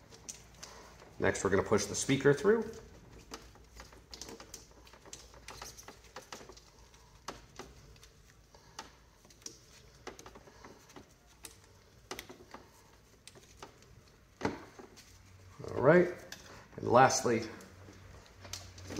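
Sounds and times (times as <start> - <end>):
hands handling plastic parts: 0.0 - 18.9.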